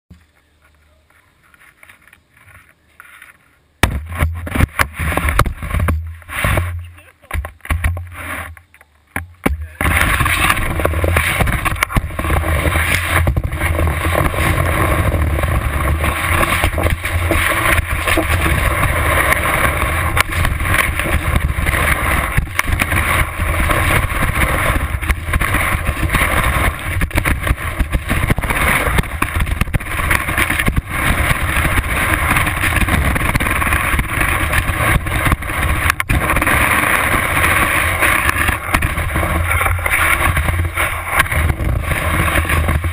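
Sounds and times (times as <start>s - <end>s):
skis sliding over snow: 0.2s - 3.6s, 4.2s - 7.3s, 9.6s - 42.9s.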